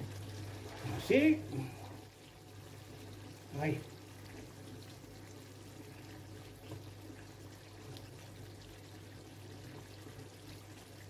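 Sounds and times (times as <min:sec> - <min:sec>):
stew bubbling in a pan: 0:00.0 - 0:11.0.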